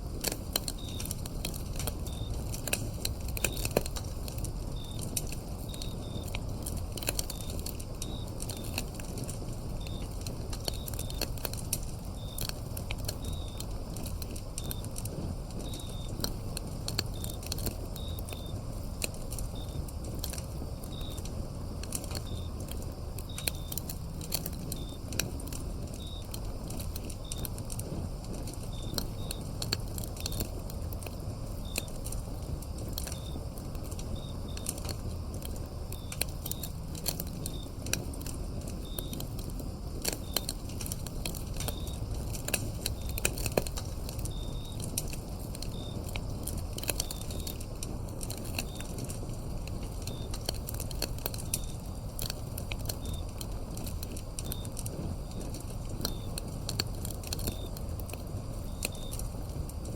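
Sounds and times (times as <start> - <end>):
crickets chirping: 0.0 - 59.9
wood fire crackling and popping: 0.0 - 59.9.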